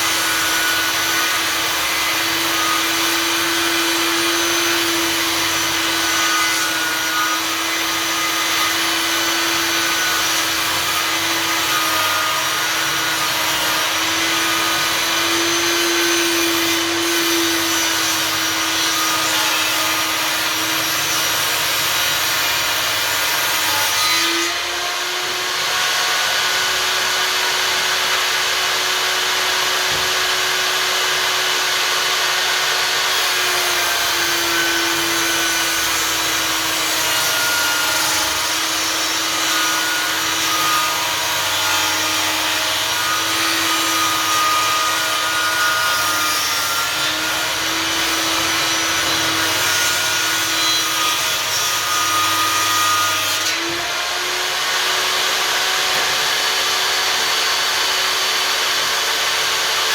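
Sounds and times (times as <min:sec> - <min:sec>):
table saw cutting wood: 0:00.0 - 0:59.9.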